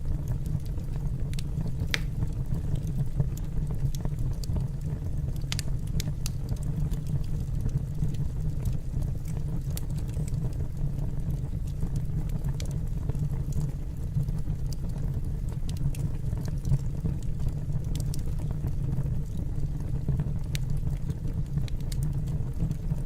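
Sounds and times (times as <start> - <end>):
fire crackling in a fireplace: 0.0 - 23.0.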